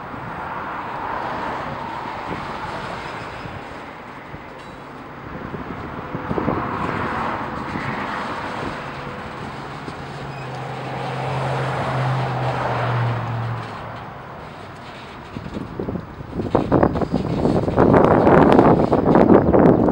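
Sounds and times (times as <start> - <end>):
vehicle engine humming: 0.0 - 19.9.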